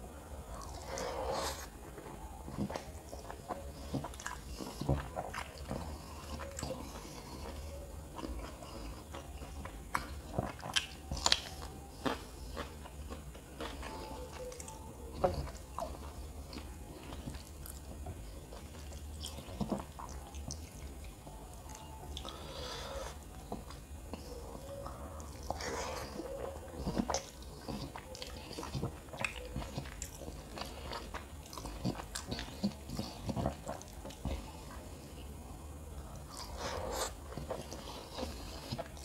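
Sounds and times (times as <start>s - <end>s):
close chewing: 0.0s - 39.0s
steady low hum: 0.0s - 39.0s.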